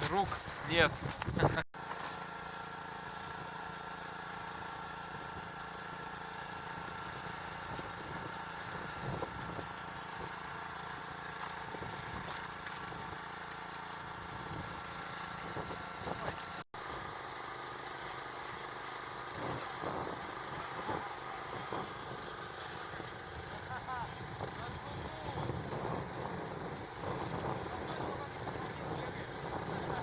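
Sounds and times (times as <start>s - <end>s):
engine idling: 2.2s - 30.0s.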